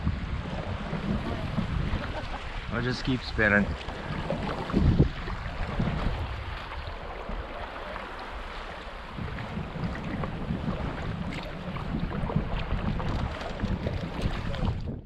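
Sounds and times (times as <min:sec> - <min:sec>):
river water rushing along hull: 0:00.0 - 0:15.0
wind rumbling on microphone: 0:00.0 - 0:15.0.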